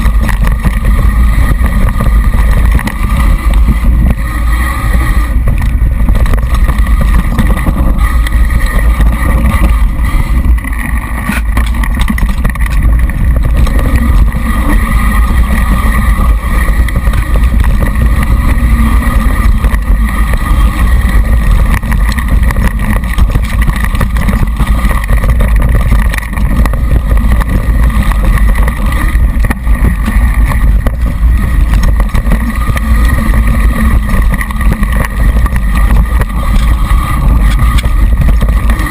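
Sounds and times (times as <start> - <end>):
bike rattling and knocking: 0.0 - 38.9
rushing air and tyres: 0.0 - 38.9.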